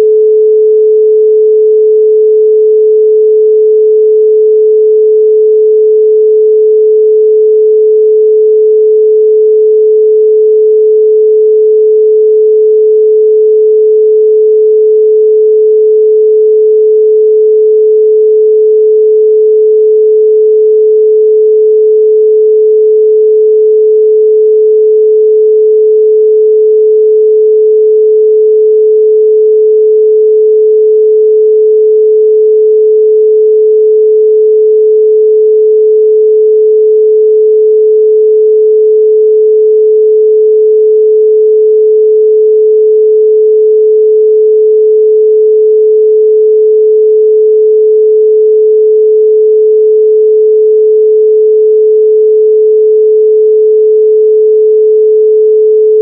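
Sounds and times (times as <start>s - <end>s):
pure sine tone: 0.0s - 56.0s.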